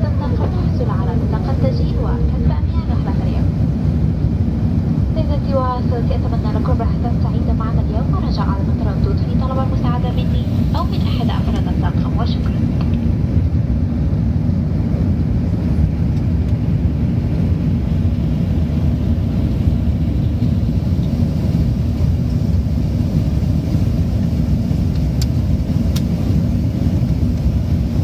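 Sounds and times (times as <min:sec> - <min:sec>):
airplane cabin noise: 0:00.0 - 0:28.0.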